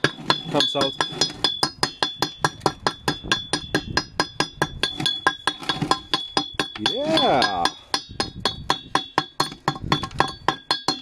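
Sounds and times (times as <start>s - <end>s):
chipping hammer striking metal: 0.0s - 11.0s
metal cylinder ringing: 0.0s - 11.0s.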